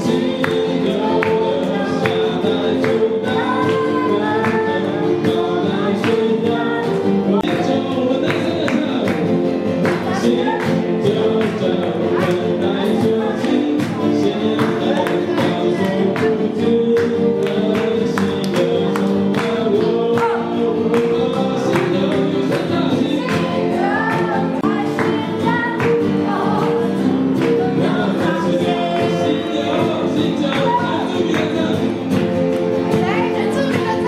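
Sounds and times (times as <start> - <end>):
group singing worship song: 0.0 - 34.0
strummed acoustic guitar: 0.0 - 34.0.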